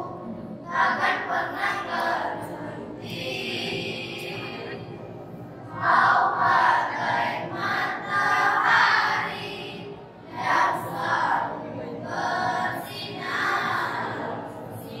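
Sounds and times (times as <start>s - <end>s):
girls singing without instruments: 0.0s - 4.9s, 5.7s - 15.0s.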